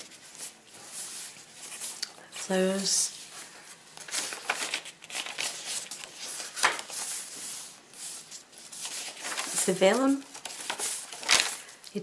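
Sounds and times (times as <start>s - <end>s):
paper pages rustling and flapping: 0.0s - 2.5s, 3.2s - 11.9s.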